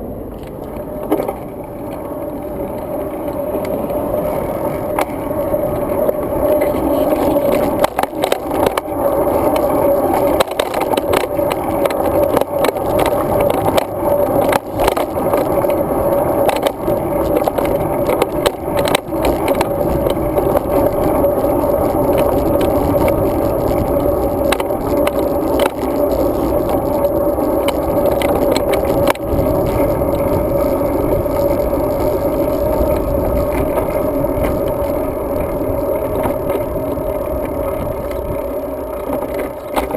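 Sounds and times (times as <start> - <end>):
bike rattling over bumps: 0.0 - 39.9
tyres and rushing air: 0.0 - 39.9.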